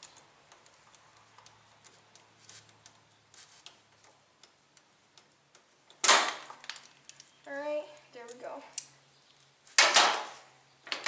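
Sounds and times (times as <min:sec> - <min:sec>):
small parts clicking: 0:00.0 - 0:09.5.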